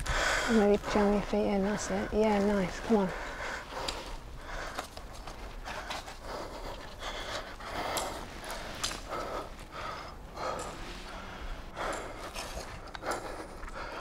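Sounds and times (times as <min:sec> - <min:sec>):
person breathing hard and gasping: 0:00.0 - 0:00.6, 0:02.9 - 0:14.0.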